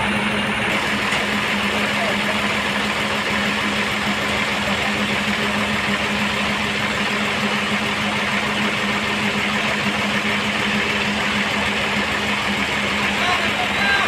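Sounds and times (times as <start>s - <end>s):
sawmill machinery hum: 0.0s - 14.0s.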